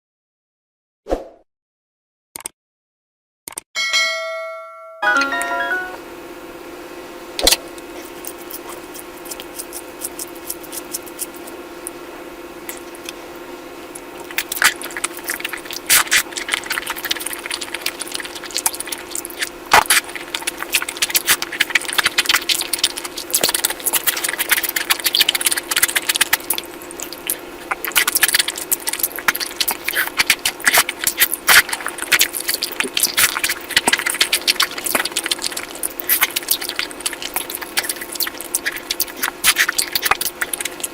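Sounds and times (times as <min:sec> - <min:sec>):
steady low hum: 0:04.2 - 0:40.9
wet eating sounds: 0:07.4 - 0:40.9.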